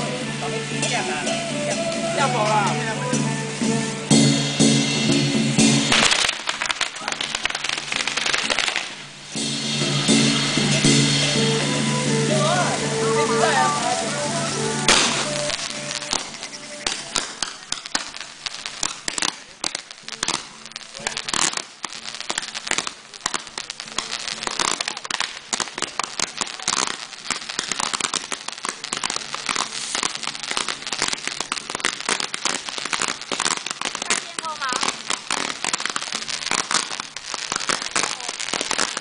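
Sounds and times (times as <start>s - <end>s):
ground fireworks crackling: 0.0s - 39.0s.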